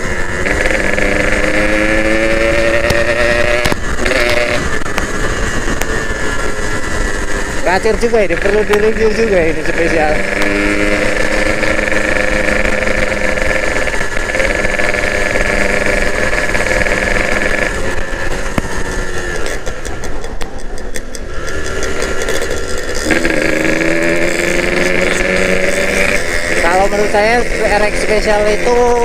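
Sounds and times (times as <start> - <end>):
two-stroke motorcycle engine: 0.0 - 29.0.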